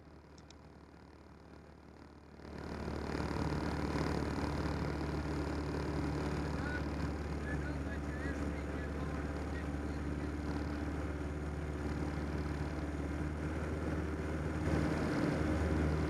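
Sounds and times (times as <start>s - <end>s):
small plane engine droning: 0.0s - 16.0s.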